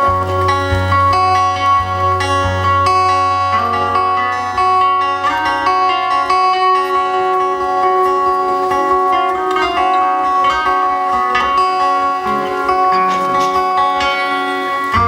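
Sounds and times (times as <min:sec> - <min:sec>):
instrumental guitar music: 0:00.0 - 0:15.0.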